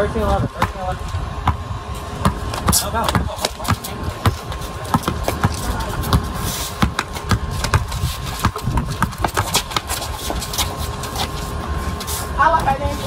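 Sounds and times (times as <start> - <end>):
basketball bouncing on concrete: 0.2 - 11.4.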